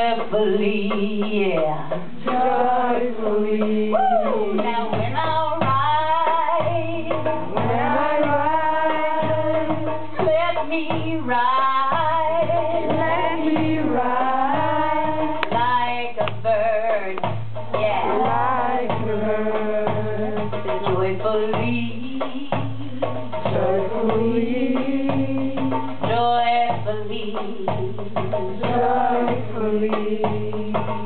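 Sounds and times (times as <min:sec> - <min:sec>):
hand drum beat: 0:00.0 - 0:31.0
woman singing: 0:00.0 - 0:31.0.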